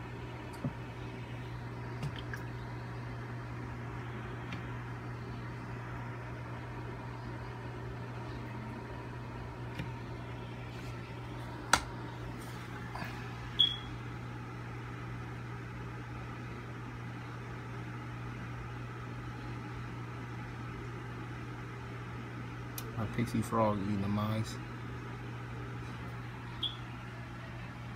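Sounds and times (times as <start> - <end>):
low mechanical hum: 0.0 - 27.9.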